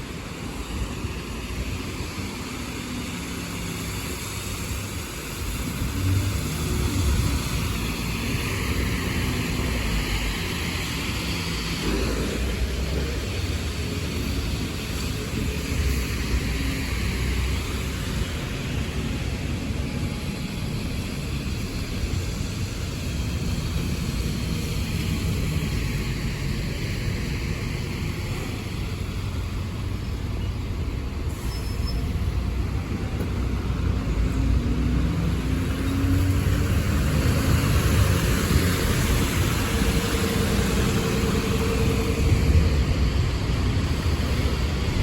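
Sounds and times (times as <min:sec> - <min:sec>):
tyre hiss on wet road: 0:00.0 - 0:45.0
vehicle engine rumble: 0:00.0 - 0:45.0.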